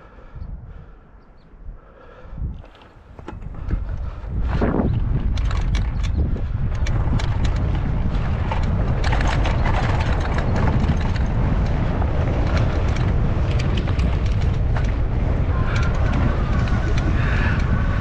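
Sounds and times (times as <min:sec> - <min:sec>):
wind rumbling on microphone: 0:00.0 - 0:18.0
tyres crunching on dirt trail: 0:02.7 - 0:18.0.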